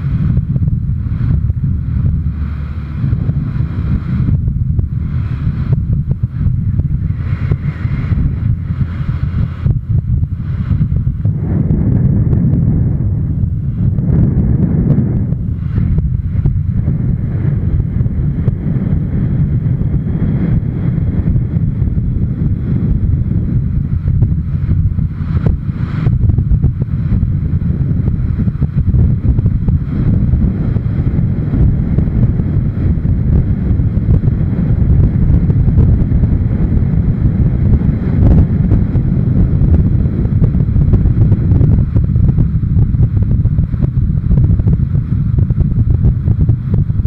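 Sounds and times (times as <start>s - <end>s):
motorcycle running: 0.0s - 47.0s
wind buffeting microphone: 0.0s - 47.0s.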